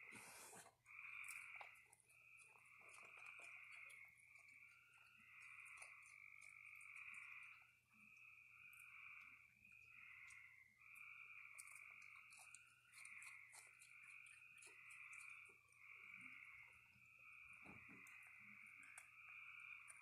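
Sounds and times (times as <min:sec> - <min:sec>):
raccoons chewing food: 0:00.0 - 0:20.0.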